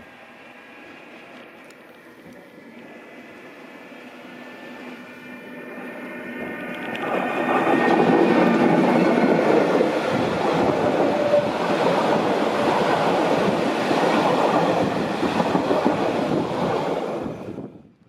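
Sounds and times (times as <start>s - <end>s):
train passing close by: 0.0s - 17.8s.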